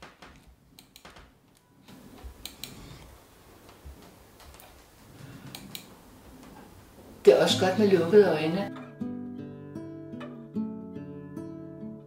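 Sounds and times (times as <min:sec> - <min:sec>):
faint low room noise: 0:00.0 - 0:12.0.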